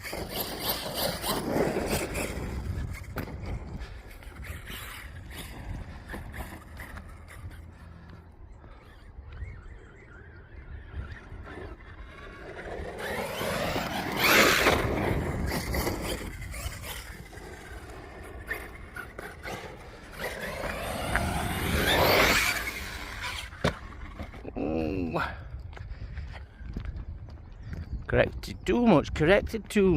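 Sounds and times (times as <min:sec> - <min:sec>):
rc truck motor whine: 0:00.0 - 0:24.6.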